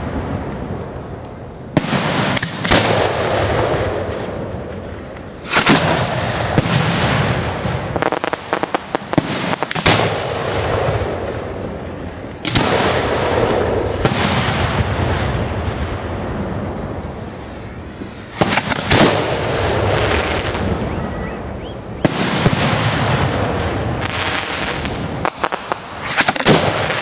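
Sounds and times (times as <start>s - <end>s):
crackling fireworks reports: 0.0s - 27.0s
fireworks booming: 0.0s - 27.0s.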